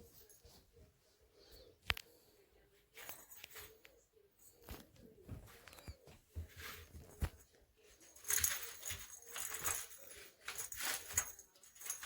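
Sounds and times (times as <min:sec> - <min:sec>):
rustling of cat playing: 0:00.0 - 0:12.0.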